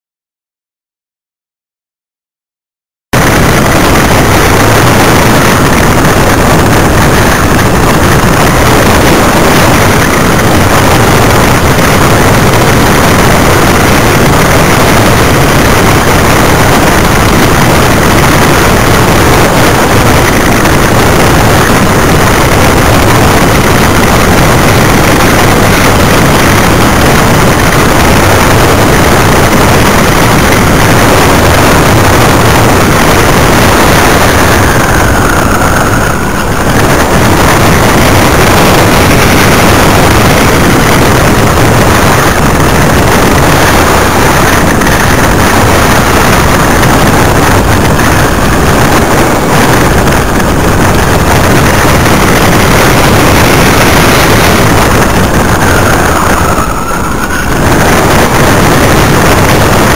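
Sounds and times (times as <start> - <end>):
wind rushing on microphone: 3.1 - 59.9
light aircraft engine: 3.2 - 59.9.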